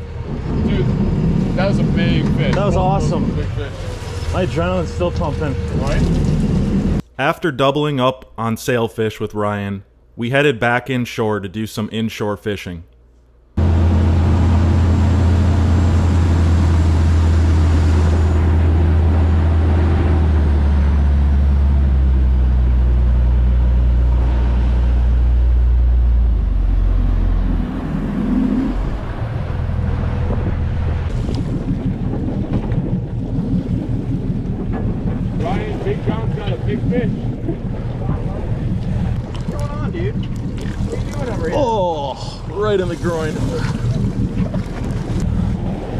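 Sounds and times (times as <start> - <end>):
boat engine droning: 0.0 - 7.0, 13.6 - 45.9
water rushing against hull: 0.0 - 7.0, 13.6 - 45.9
wind buffeting: 0.0 - 7.0, 13.6 - 45.9.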